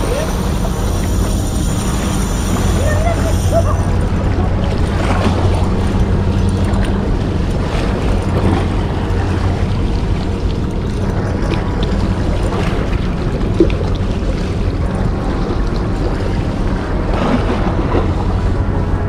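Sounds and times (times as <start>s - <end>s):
sea water washing against rocks: 0.0s - 18.2s
constant low hum: 0.0s - 19.0s
wind on microphone: 0.0s - 19.0s.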